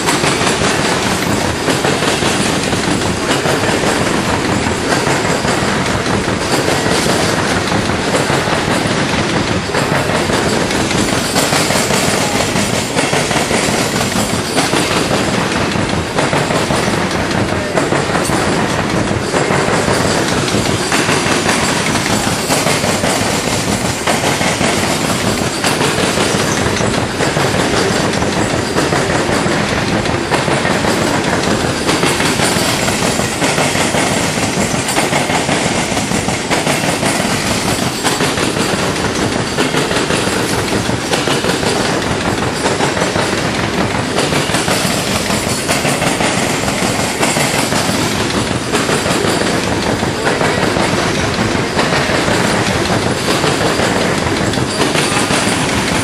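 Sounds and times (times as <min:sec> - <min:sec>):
freight train rumbling past: 0:00.0 - 0:56.0
wheels clickety-clack: 0:00.0 - 0:56.0.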